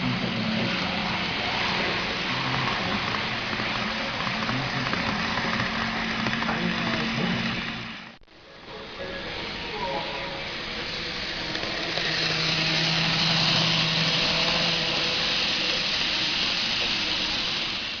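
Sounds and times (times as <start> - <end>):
low hum: 0.0 - 18.0
train running: 0.0 - 18.0.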